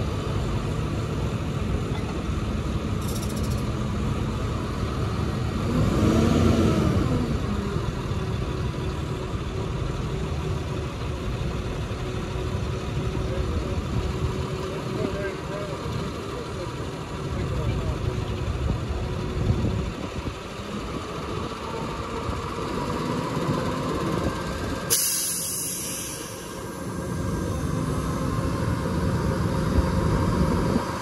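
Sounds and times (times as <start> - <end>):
truck engine idling and revving: 0.0 - 31.0.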